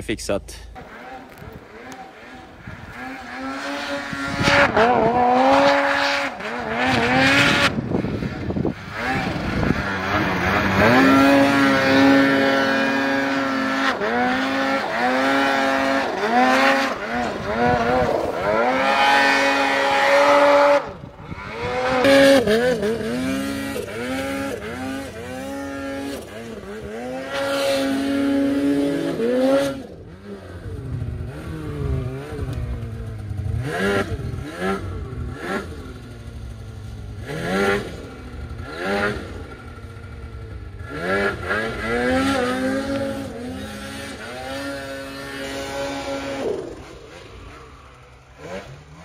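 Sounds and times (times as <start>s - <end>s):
snowmobile engine revving: 0.1s - 49.0s.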